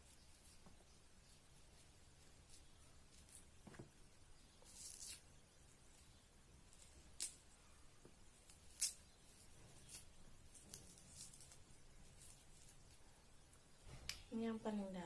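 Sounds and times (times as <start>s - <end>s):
shallot being peeled by hand: 0.0s - 14.3s.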